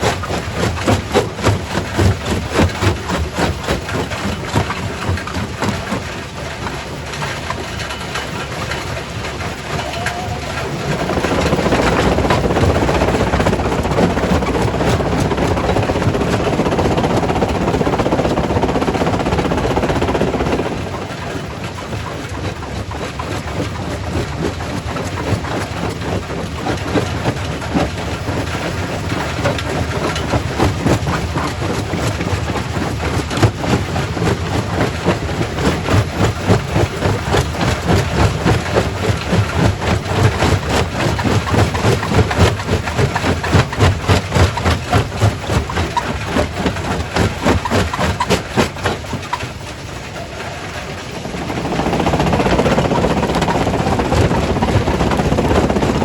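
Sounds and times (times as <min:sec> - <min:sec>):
rock crusher machine drone: 0:00.0 - 0:56.0.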